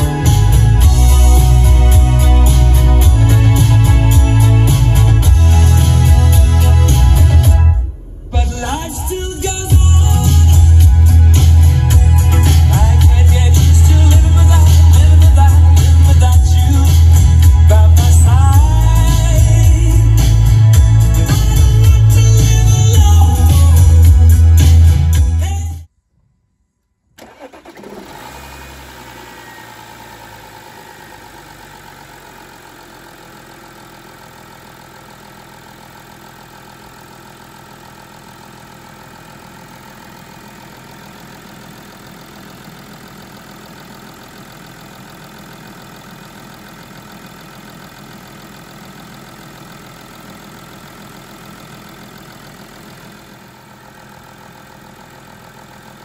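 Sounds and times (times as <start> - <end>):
diesel engine starting and idling: 0.0 - 25.9, 27.1 - 56.0.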